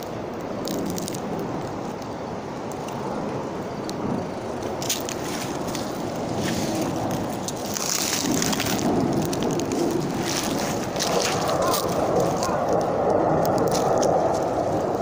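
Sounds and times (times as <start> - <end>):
crackles and rustles of fur and leaves: 0.0 - 15.0.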